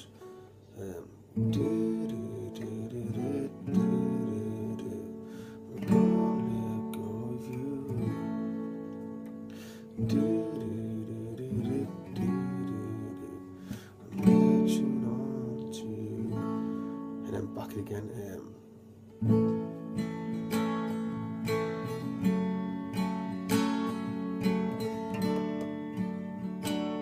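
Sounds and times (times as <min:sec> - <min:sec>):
acoustic guitar strums: 0:00.0 - 0:27.0.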